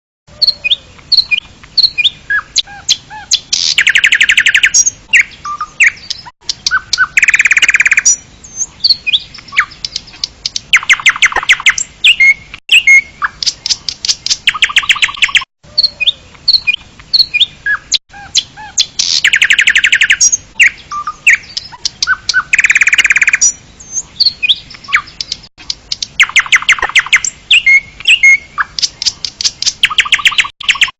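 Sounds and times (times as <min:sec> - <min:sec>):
songbirds chirping: 0:00.3 - 0:30.9
bird trills: 0:00.4 - 0:30.9.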